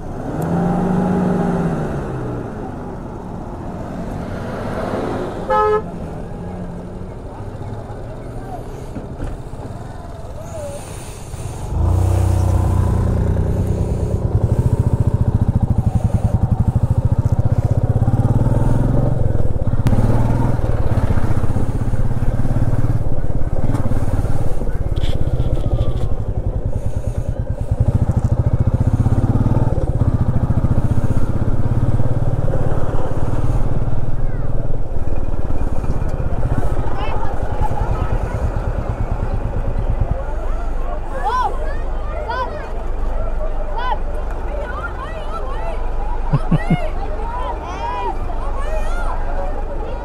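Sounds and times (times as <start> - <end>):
motorcycle engine running: 5.5 - 47.5.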